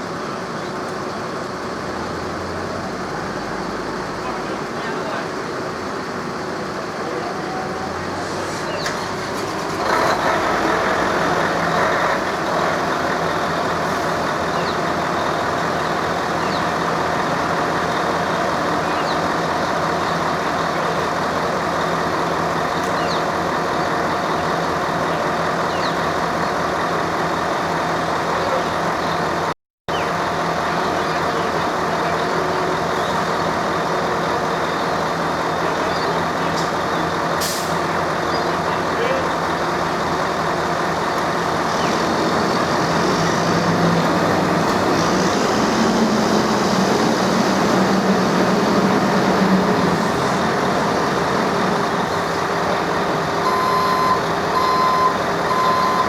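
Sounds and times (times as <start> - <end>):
large vehicle engine running: 0.0 - 56.0.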